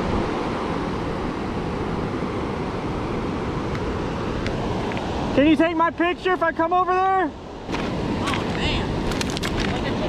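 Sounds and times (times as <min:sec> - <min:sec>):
fast-flowing river rushing: 0:00.0 - 0:10.0.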